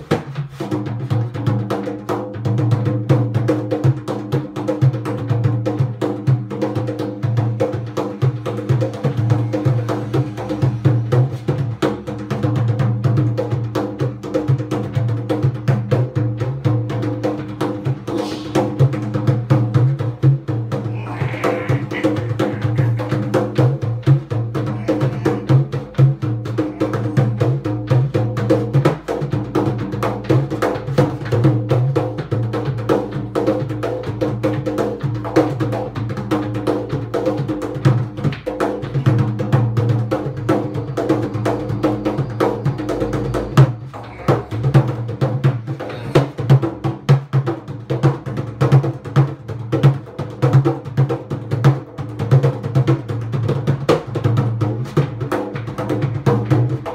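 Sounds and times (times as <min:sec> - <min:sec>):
hand drum fast rhythm: 0:00.0 - 0:56.9.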